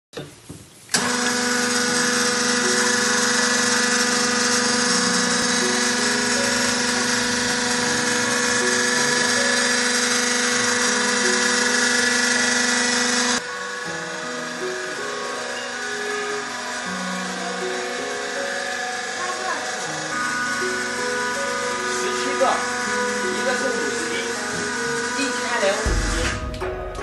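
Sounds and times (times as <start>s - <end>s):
electric pump motor humming: 0.9s - 27.0s.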